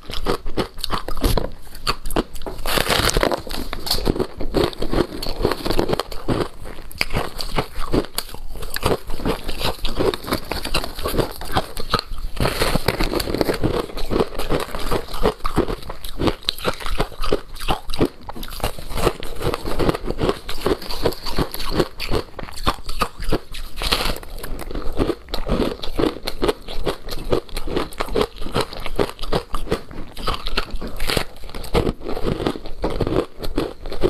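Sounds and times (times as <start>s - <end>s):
ice being bitten and chewed: 0.0s - 34.0s.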